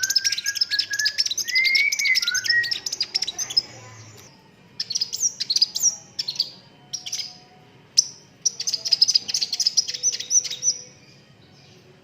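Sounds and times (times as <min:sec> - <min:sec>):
bird singing high chirps: 0:00.0 - 0:12.0.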